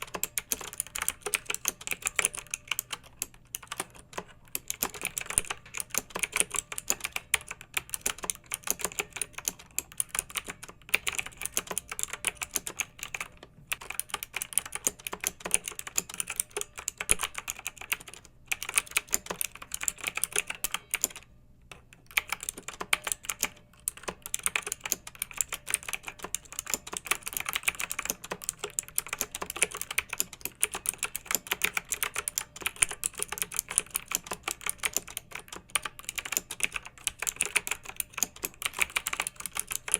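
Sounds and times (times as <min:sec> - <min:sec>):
faint steady hum: 0:00.0 - 0:39.9
typing on mechanical keyboard: 0:00.0 - 0:39.9.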